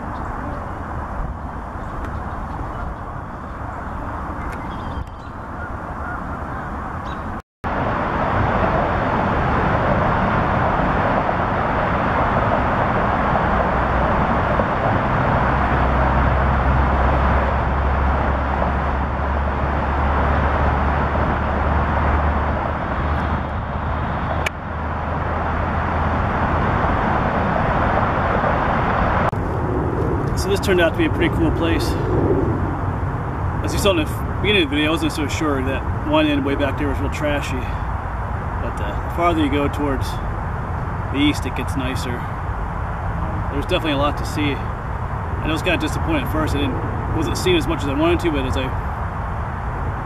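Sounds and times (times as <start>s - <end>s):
distant road traffic roar: 0.0s - 50.0s
low droning rumble: 0.0s - 50.0s.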